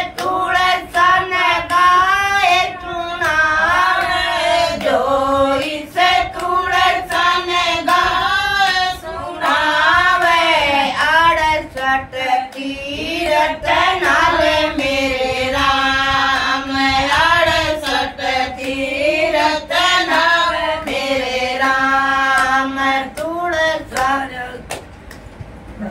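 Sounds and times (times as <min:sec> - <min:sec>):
women singing devotional song: 0:00.0 - 0:25.1.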